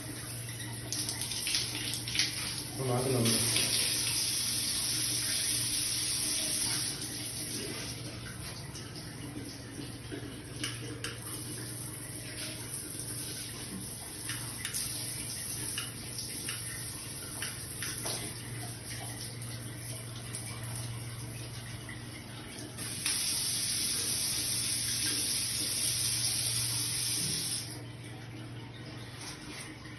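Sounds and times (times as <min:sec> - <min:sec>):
water running from a tap: 0:00.0 - 0:29.9.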